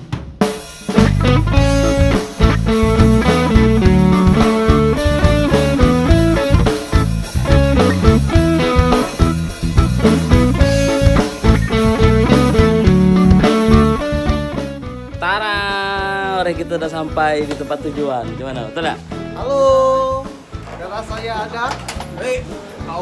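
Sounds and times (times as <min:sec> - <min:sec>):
drum kit: 0:00.0 - 0:23.0
guitar melody: 0:00.9 - 0:22.0.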